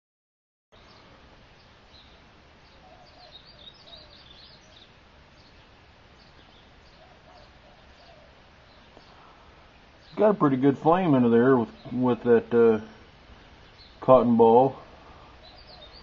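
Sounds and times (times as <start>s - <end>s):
birds chirping faintly: 0.8s - 16.0s
steady low hiss: 0.8s - 16.0s.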